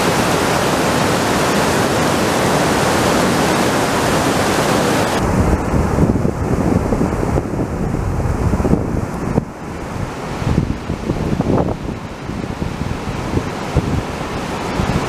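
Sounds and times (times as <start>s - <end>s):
rapids rushing over boulders: 0.0s - 15.0s
wind buffeting microphone: 0.0s - 15.0s.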